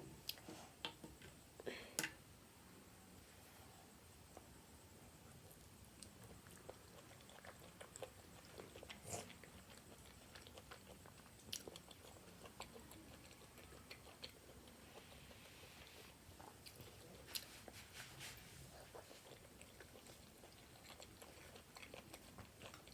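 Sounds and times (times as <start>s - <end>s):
faint chewing: 0.2s - 1.4s, 4.2s - 22.9s.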